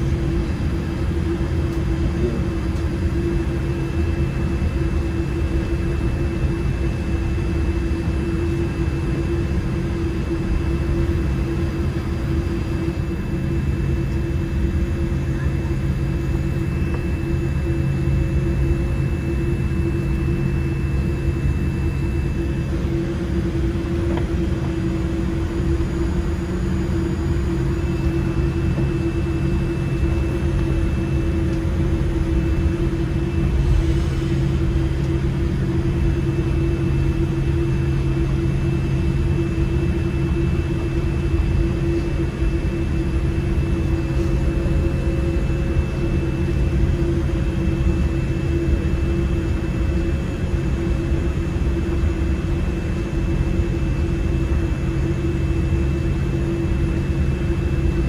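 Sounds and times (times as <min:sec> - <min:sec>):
cabin air hum: 0:00.0 - 0:58.0
faint high whine: 0:00.0 - 0:58.0
idling jet engines rumble: 0:00.0 - 0:58.0.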